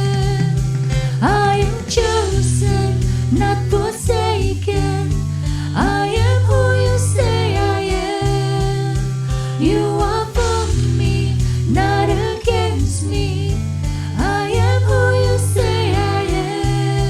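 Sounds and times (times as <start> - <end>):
person singing: 0.0 - 5.2, 5.8 - 17.0
steady bass: 0.0 - 17.0.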